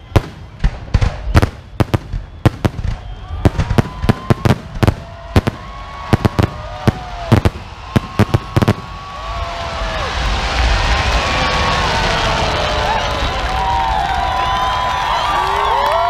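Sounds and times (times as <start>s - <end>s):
fireworks bursting: 0.0s - 15.1s.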